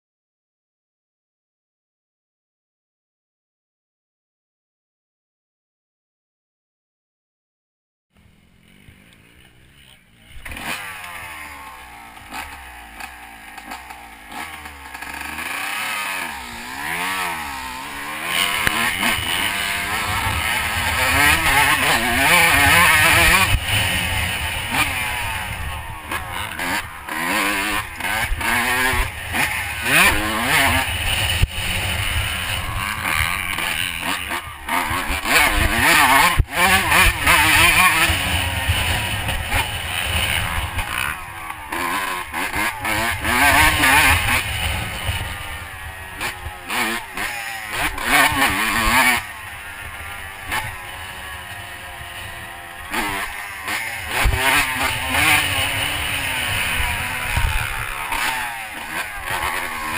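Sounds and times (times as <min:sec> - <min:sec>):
motocross bike engine revving: 0:08.2 - 0:59.9.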